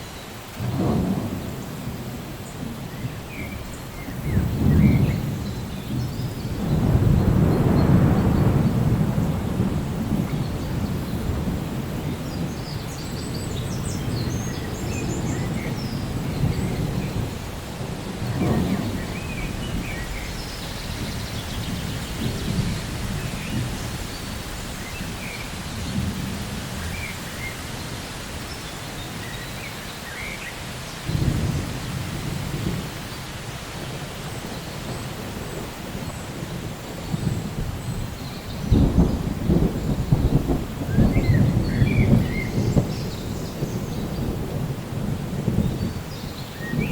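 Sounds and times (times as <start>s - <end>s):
steady rain: 0.0s - 46.9s
low rolling thunder: 0.4s - 46.9s.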